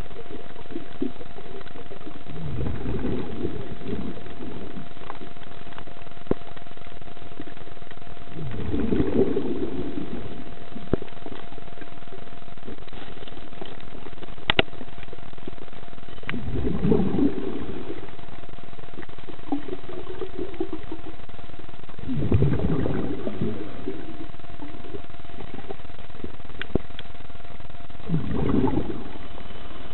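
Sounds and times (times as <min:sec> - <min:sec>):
faint constant hum: 0:00.0 - 0:29.9
steady hiss: 0:00.0 - 0:29.9
underwater exhaled bubbles: 0:00.0 - 0:29.9.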